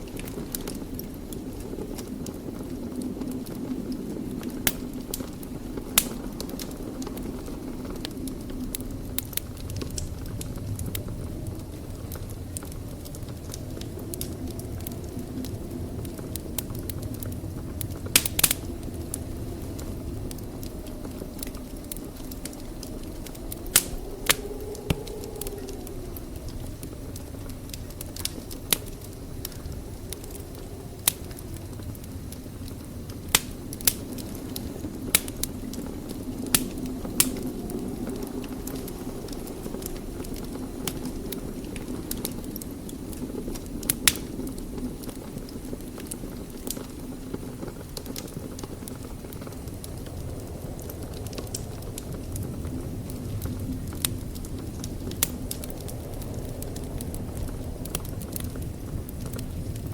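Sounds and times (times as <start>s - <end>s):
fire crackling and popping: 0.0s - 59.9s
fire roaring: 0.0s - 59.9s.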